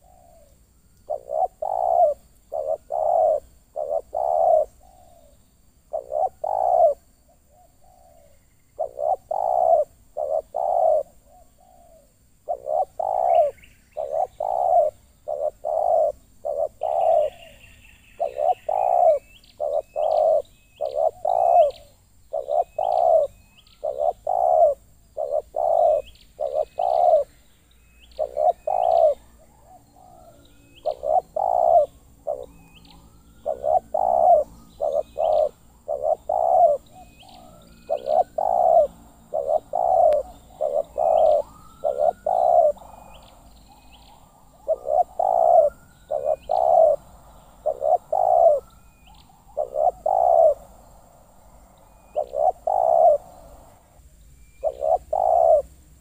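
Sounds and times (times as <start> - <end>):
doves cooing: 0.0 - 27.3, 28.1 - 54.0, 54.6 - 56.0
faint high chirps: 0.0 - 55.7.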